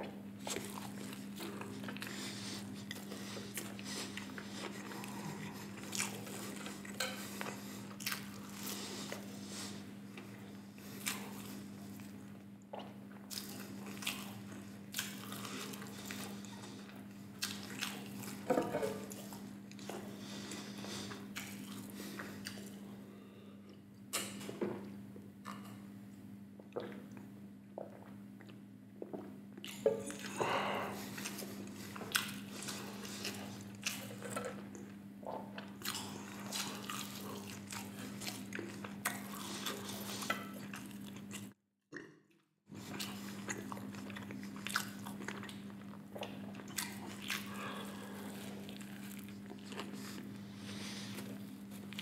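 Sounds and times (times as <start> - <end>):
steady low hum: 0.0 - 41.6, 42.7 - 52.0
chewing with wet mouth smacks: 0.4 - 22.8, 31.0 - 42.2, 42.8 - 52.0.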